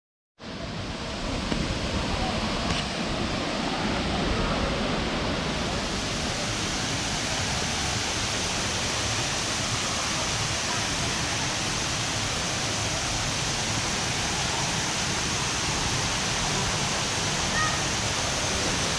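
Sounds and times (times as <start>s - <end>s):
waterfall rushing: 0.5s - 18.9s.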